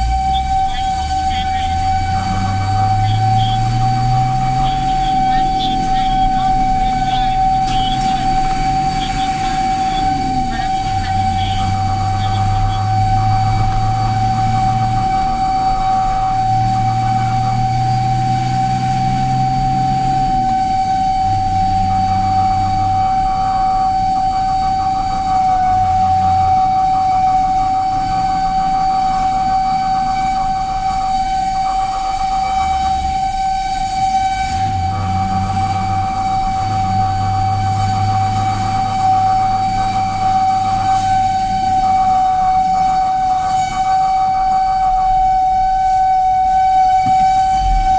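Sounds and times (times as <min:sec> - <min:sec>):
rapid high pulsing: 0:00.0 - 0:46.4
fire engine siren: 0:00.0 - 0:47.9
low drone: 0:00.0 - 0:47.9.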